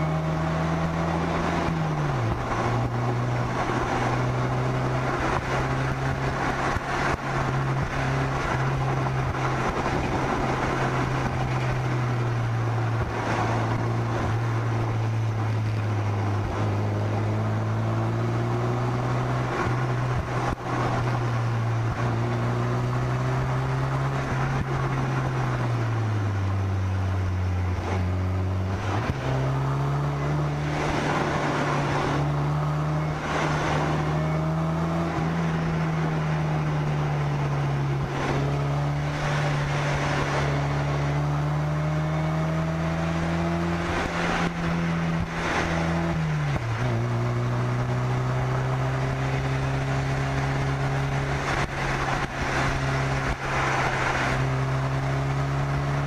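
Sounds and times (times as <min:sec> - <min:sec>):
car engine running: 0:00.0 - 0:56.0
road and wind noise: 0:00.0 - 0:56.0.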